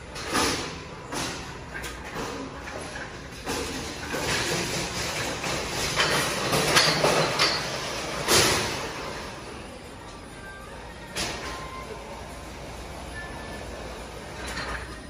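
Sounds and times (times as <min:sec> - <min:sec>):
shopping trolley rolling and rattling: 0:00.0 - 0:10.4, 0:11.2 - 0:15.0.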